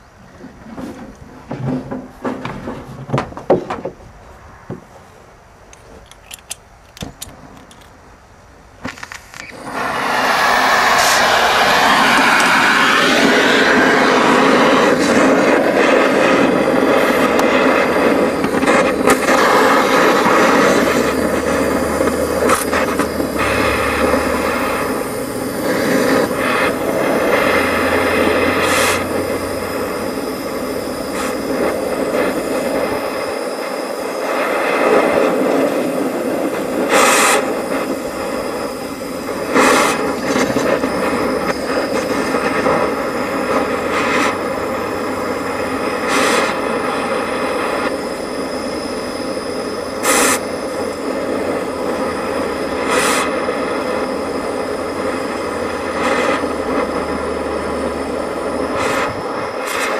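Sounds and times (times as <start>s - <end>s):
cutting torch flame on metal: 9.0s - 59.9s.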